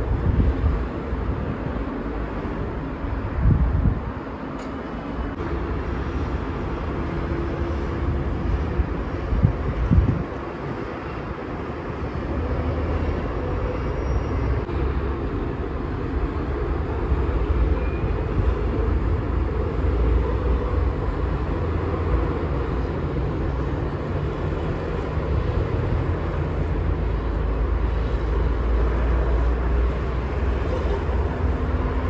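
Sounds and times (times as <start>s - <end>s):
distant road traffic rumble: 0.0s - 32.0s
wind: 0.0s - 32.0s.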